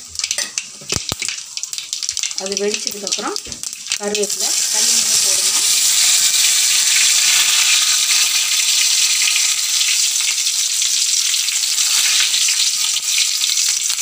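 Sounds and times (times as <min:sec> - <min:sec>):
leaves sizzling in hot oil: 0:00.0 - 0:14.0.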